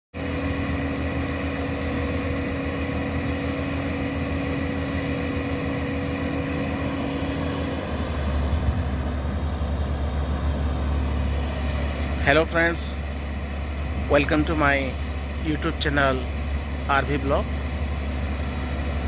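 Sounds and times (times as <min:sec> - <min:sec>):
road noise: 0:00.1 - 0:19.0
vehicle engine running: 0:00.1 - 0:19.0.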